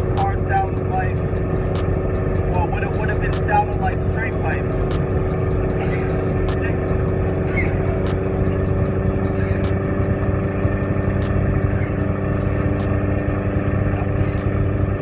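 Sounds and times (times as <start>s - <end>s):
car engine hum: 0.0s - 15.0s
road noise inside car: 0.0s - 15.0s.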